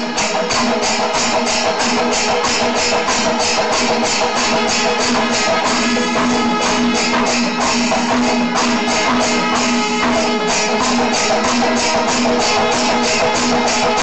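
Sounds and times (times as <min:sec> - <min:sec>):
drums: 0:00.0 - 0:14.0
hand cymbals clashing: 0:00.0 - 0:14.0
percussion ensemble playing: 0:00.0 - 0:14.0
steady held tone: 0:00.0 - 0:14.0.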